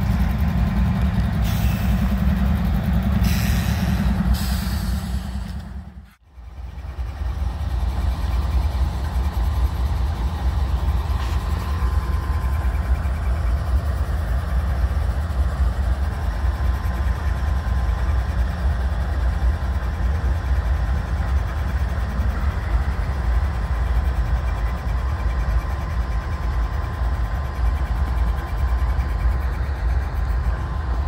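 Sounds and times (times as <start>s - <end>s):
locomotive engines rumbling: 0.0s - 31.0s
faint steady whine: 6.0s - 31.0s.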